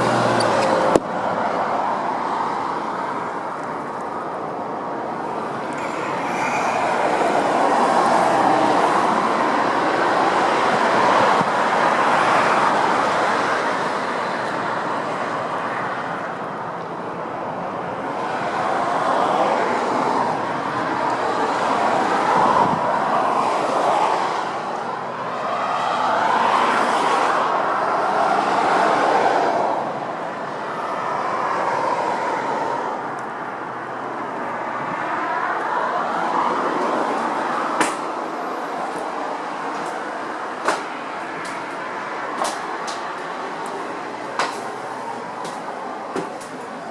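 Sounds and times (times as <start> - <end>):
vehicles passing: 0.0 - 46.9.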